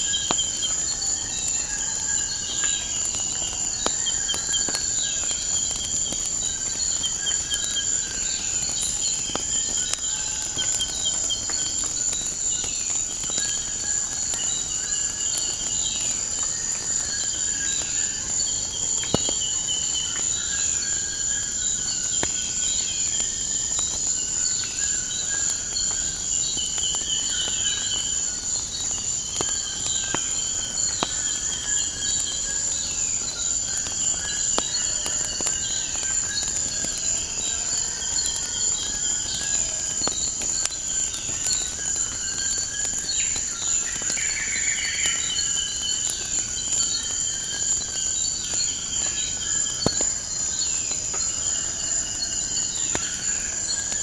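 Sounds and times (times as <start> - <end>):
crickets trilling: 0.0 - 54.0
wood fire crackling: 0.0 - 54.0.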